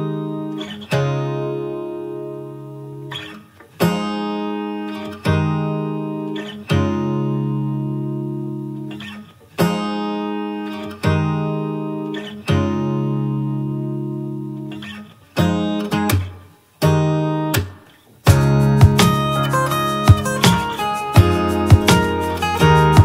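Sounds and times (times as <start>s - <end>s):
acoustic guitar strumming slow chords: 0.0s - 23.0s.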